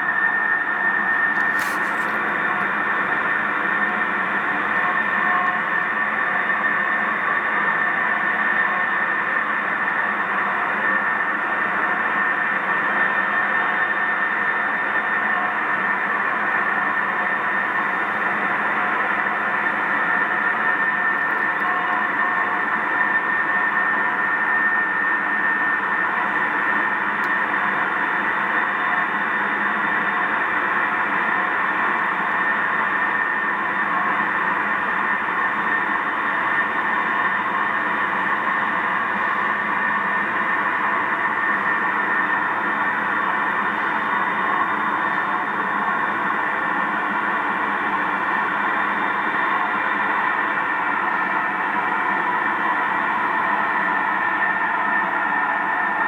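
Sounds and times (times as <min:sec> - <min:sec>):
droning hum of held tones: 0:00.0 - 0:56.0.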